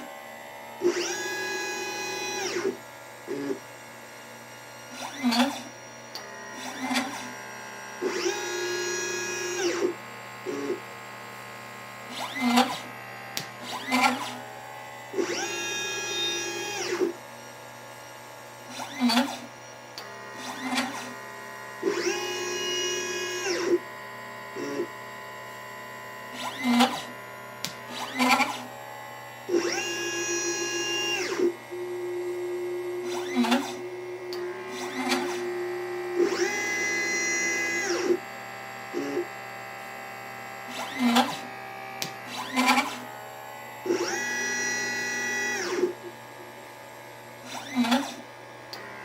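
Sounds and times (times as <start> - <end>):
stepper motors whining: 0.0 - 3.7, 4.9 - 10.9, 12.0 - 17.3, 18.6 - 25.0, 26.2 - 38.2, 40.7 - 46.2, 47.4 - 49.0.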